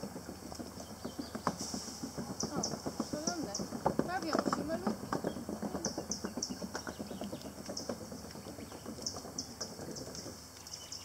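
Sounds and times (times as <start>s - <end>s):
small birds chirping: 0.0s - 11.0s
soft outdoor background noise: 0.0s - 11.0s.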